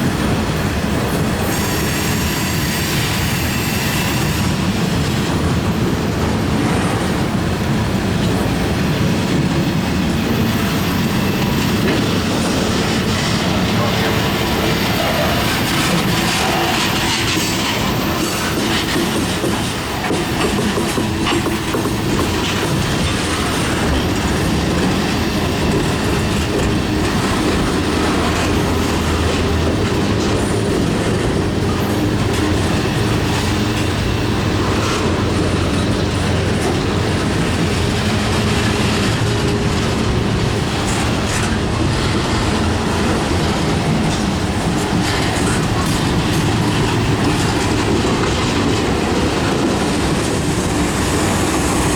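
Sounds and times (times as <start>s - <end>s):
train wheels rumbling on rail: 0.0s - 51.9s
wheels clicking over track: 10.2s - 51.9s.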